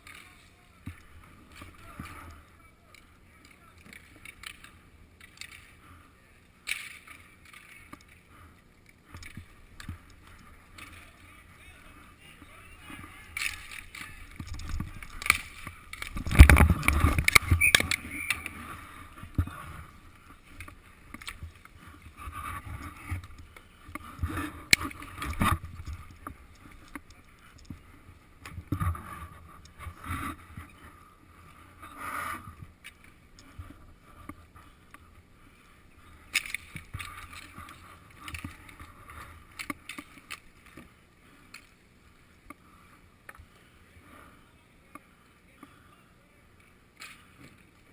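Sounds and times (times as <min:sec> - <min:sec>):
sticks and puck clacking: 0:00.0 - 0:06.0, 0:06.6 - 0:43.5, 0:47.0 - 0:47.9
skate wheels rolling on concrete: 0:00.0 - 0:47.9.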